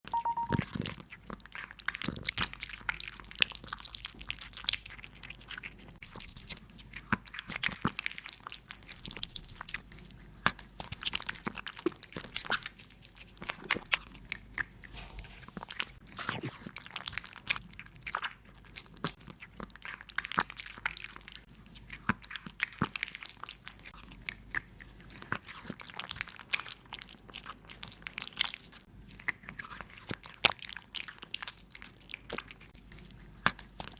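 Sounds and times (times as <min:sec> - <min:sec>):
cat chewing food: 0:00.6 - 0:33.9.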